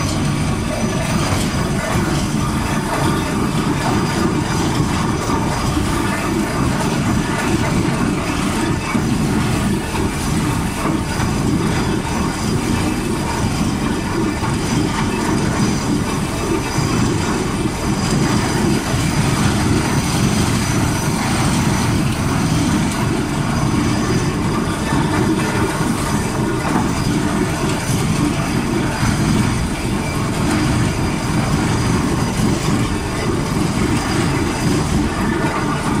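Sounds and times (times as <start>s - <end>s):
drilling rig rumbling: 0.0s - 36.0s.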